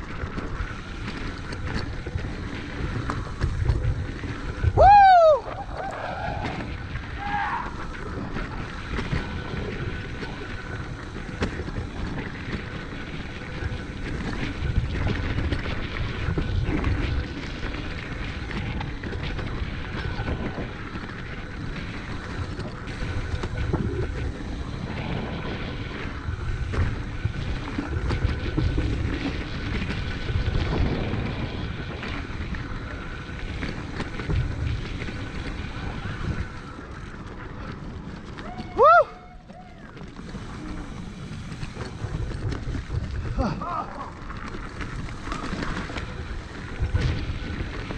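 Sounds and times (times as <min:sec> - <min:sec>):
bike tyres rolling over dirt: 0:00.0 - 0:47.9
wind buffeting microphone: 0:00.0 - 0:47.9
bike clattering over bumps: 0:06.4 - 0:47.9.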